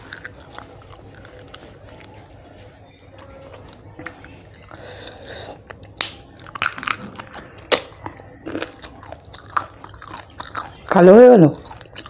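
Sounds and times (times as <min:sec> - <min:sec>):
chewing with wet mouth smacks: 0:00.0 - 0:03.0, 0:03.7 - 0:12.0.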